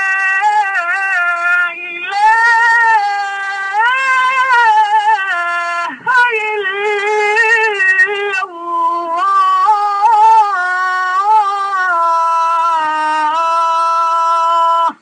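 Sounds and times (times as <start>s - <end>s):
man chanting call to prayer: 0.0s - 15.0s.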